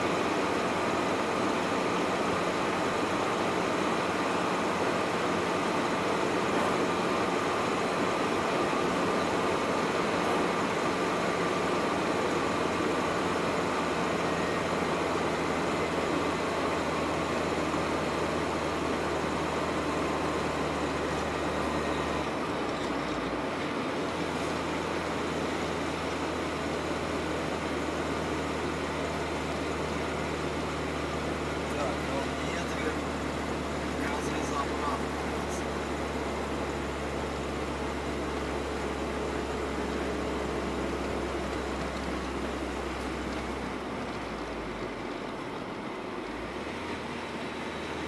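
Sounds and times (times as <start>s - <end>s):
van engine and tyre noise: 0.0s - 48.0s.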